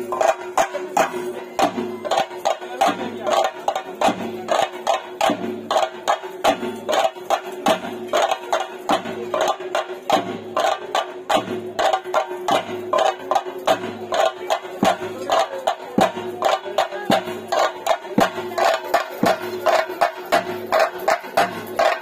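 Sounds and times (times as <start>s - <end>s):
drums beaten in fast rhythm: 0.0s - 22.0s.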